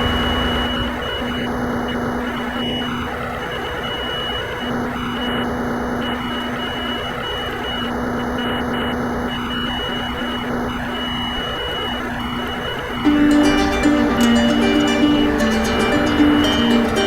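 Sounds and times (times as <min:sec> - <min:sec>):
thin high whine: 0:00.0 - 0:17.0.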